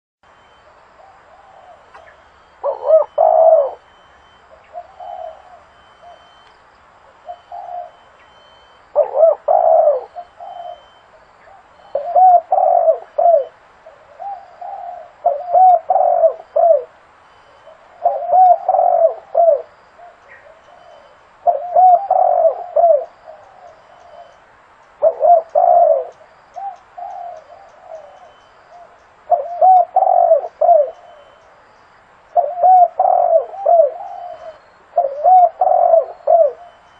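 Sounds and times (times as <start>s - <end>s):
dove cooing: 1.0s - 6.4s, 7.1s - 24.4s, 25.0s - 31.5s, 32.3s - 36.9s.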